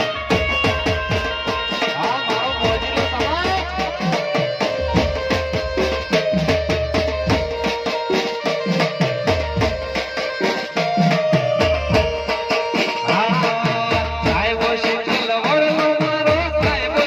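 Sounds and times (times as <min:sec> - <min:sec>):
keyboard melody over loudspeakers: 0:00.0 - 0:17.0
tabla drum beat: 0:00.0 - 0:17.0.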